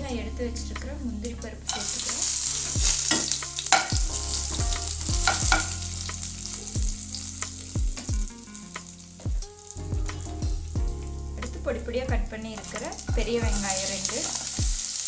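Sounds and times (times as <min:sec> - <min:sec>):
hot oil sizzling: 0:01.6 - 0:15.0.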